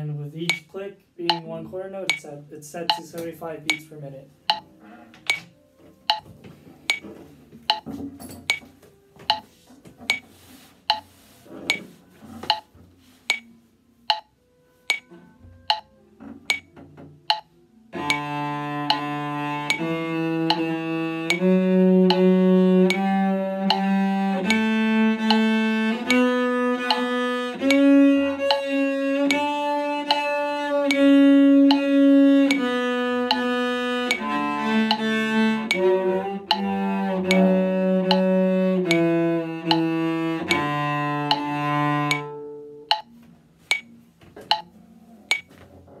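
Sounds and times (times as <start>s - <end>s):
cello playing a scale: 0.0s - 5.4s, 9.3s - 44.7s
metronome clicking: 0.4s - 6.3s, 6.9s - 7.1s, 7.7s - 7.9s, 8.5s - 9.5s, 10.9s - 11.1s, 11.7s - 12.7s, 13.3s - 44.7s, 45.3s - 45.5s.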